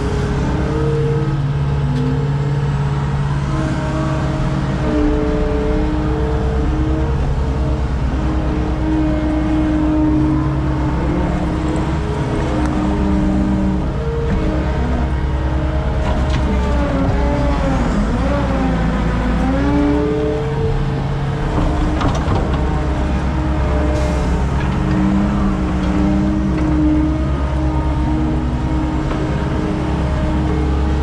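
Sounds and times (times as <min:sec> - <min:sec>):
skid steer engine under load: 0:00.0 - 0:31.0.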